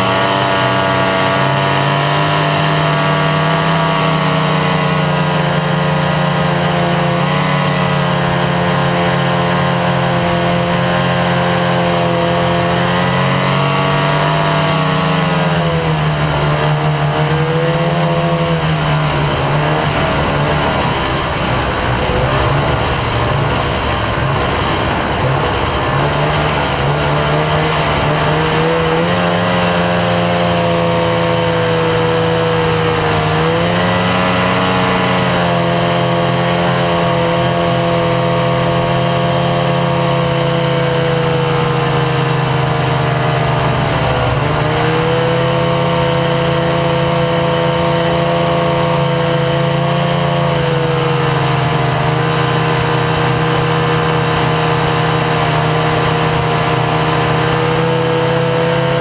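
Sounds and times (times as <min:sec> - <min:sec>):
snowmobile engine running: 0:00.0 - 0:59.0
track noise: 0:00.0 - 0:59.0.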